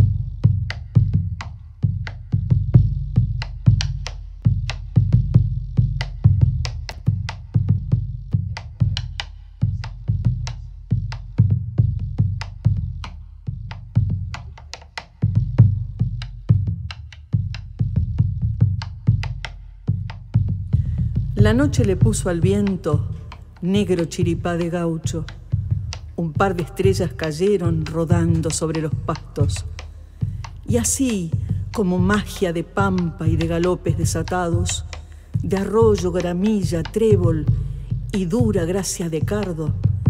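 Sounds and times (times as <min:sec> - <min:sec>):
bass drum rhythm: 0:00.0 - 0:40.0.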